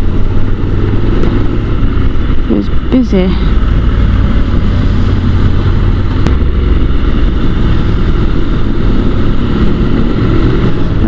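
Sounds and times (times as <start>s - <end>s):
motorcycle engine running: 0.0s - 11.0s
wind rush on microphone: 0.0s - 11.0s.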